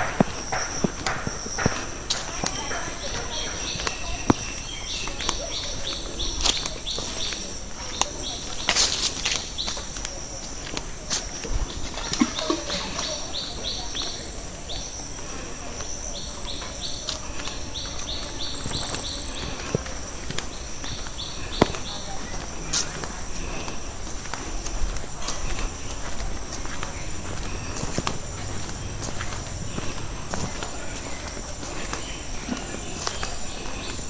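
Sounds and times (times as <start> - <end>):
footsteps on dirt path: 0.0 - 34.0
insects droning: 0.0 - 34.0.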